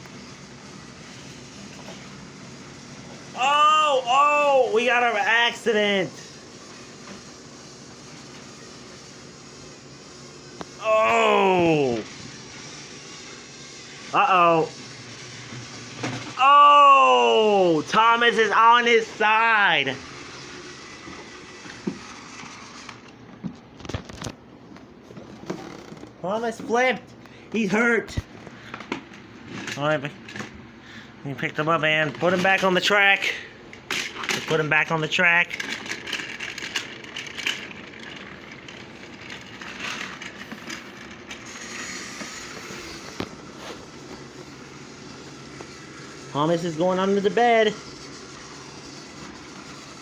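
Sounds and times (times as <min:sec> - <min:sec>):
toy train motor whirring: 0:00.1 - 0:23.1, 0:32.2 - 0:50.0.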